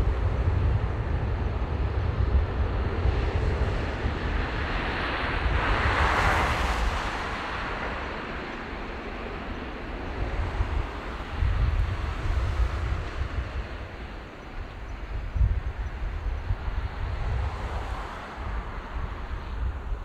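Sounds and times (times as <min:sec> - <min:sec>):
jet engines at takeoff: 0:00.0 - 0:20.0
wind on microphone: 0:00.0 - 0:20.0.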